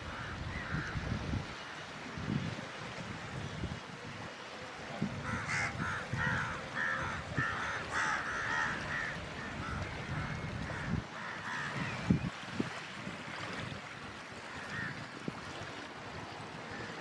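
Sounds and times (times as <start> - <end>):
wind rumble on microphone: 0.0 - 16.8.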